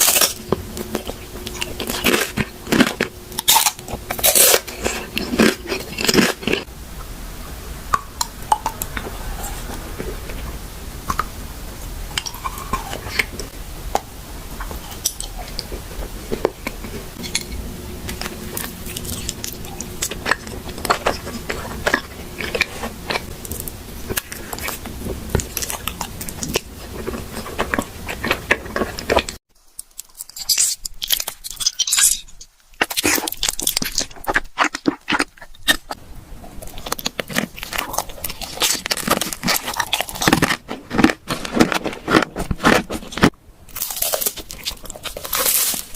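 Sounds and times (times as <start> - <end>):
crunchy eating and chewing: 0.0 - 6.8, 7.9 - 45.9.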